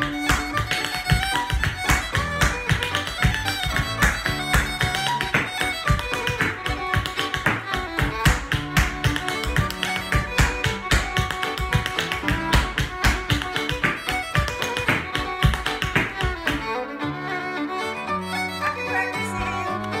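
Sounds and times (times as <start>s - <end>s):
hard shoes tapping: 0.0s - 16.9s
fiddle reel music: 0.0s - 20.0s.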